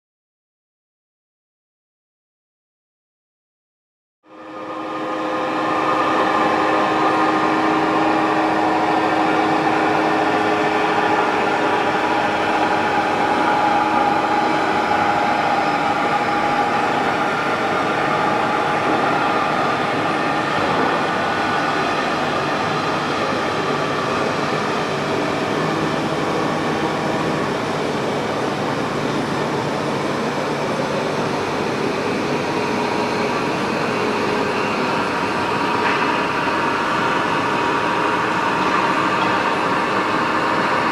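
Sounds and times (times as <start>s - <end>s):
lathe mechanical hum: 4.3s - 40.9s
rushing noise: 4.3s - 40.9s
steady machine tones: 4.3s - 40.9s.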